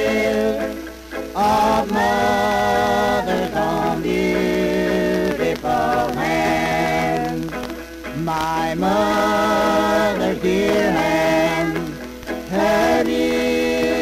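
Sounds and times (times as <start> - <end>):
group singing gospel in harmony: 0.0 - 14.0
record surface noise: 0.0 - 14.0.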